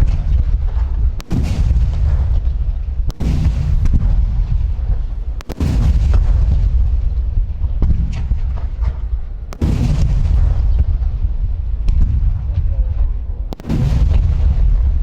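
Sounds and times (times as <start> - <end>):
sharp firework cracks: 0.0 - 15.0.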